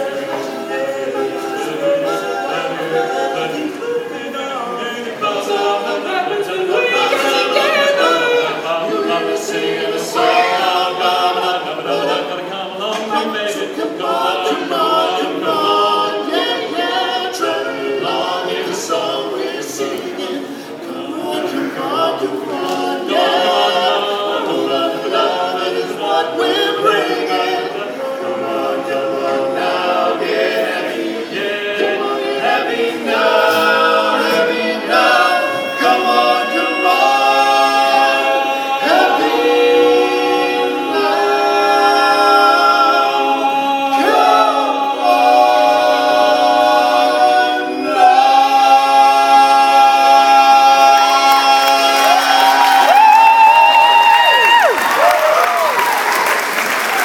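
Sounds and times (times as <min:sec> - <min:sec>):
barbershop quartet singing: 0:00.0 - 0:57.0.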